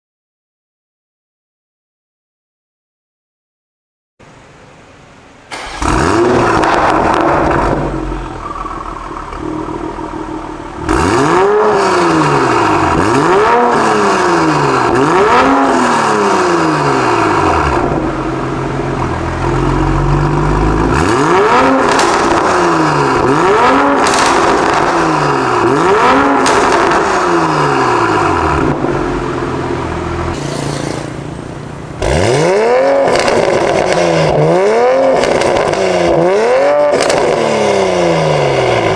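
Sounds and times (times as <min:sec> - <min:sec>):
car engine idling and revving: 0:04.2 - 0:38.9.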